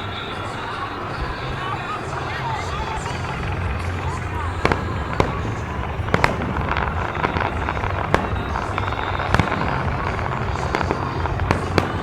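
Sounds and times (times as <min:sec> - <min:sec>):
fireworks rumble and crackle: 0:00.0 - 0:12.0
fireworks sharp bangs: 0:00.0 - 0:12.0.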